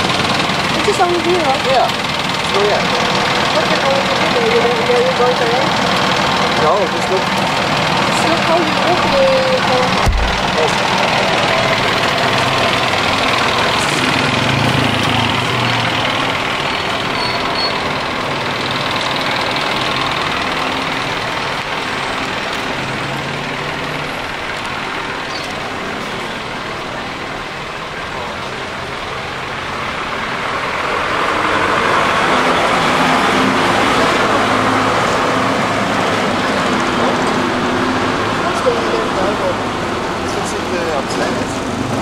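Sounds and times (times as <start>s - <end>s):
motor vehicle engine running: 0.0s - 42.0s
road noise: 0.0s - 42.0s.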